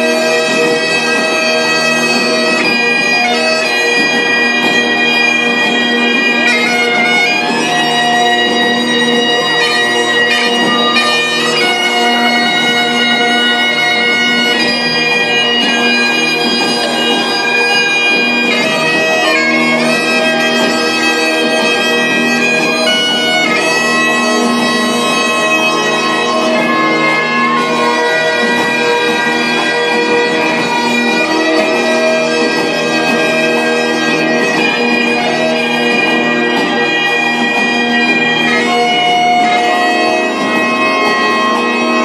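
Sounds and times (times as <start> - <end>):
bagpipes playing: 0.0 - 42.0.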